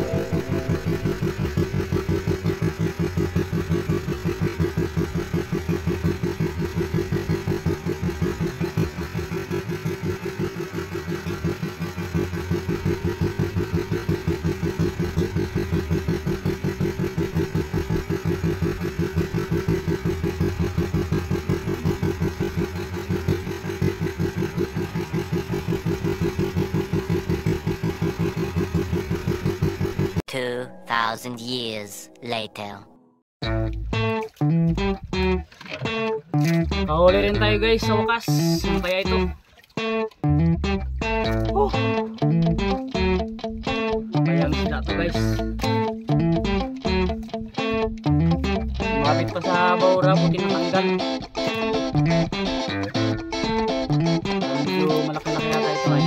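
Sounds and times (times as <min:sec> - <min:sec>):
boat engine throbbing: 0:00.0 - 0:30.8, 0:36.4 - 0:56.0.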